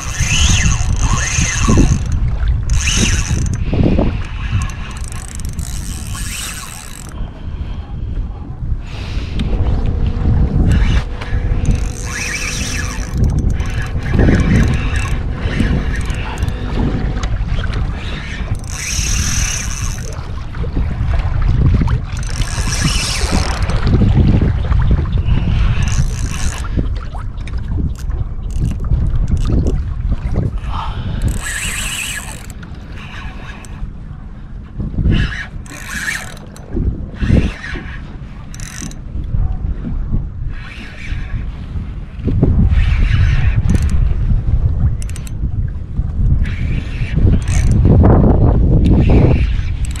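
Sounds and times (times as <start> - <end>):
fishing reel gears whirring: 0.0 - 8.1, 8.8 - 21.1, 21.7 - 24.4, 25.2 - 29.8, 30.6 - 39.4, 40.4 - 50.0
wind buffeting microphone: 0.0 - 50.0.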